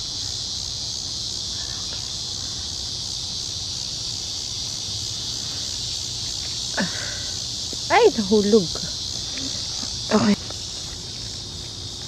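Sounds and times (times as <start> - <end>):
insects chirping shrilly: 0.0 - 12.0.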